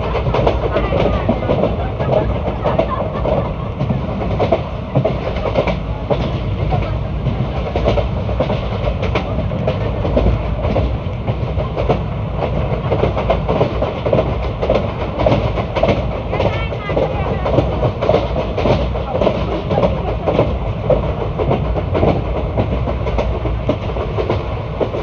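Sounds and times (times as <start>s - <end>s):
train coach rumbling: 0.0s - 25.0s
wheels clacking and knocking: 0.0s - 25.0s.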